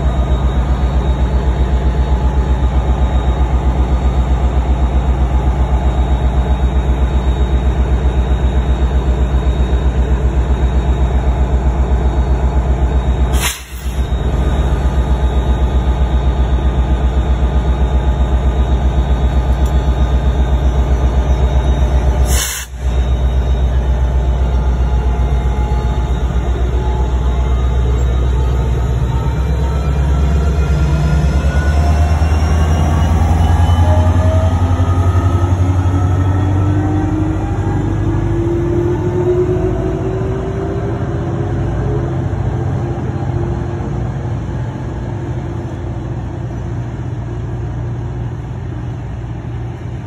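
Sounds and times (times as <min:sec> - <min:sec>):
train rumbling past: 0:00.0 - 0:50.0.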